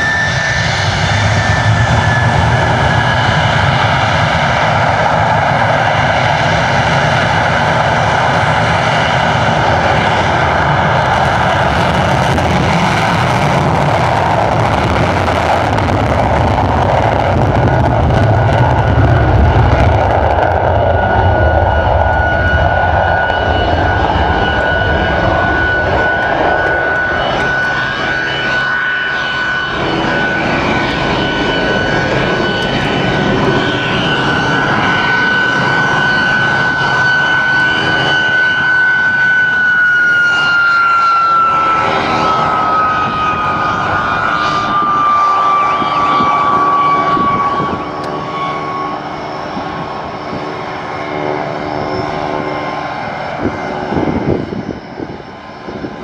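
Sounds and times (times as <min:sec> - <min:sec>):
high jet whine: 0:00.0 - 0:56.0
jet engine roaring: 0:00.0 - 0:56.0.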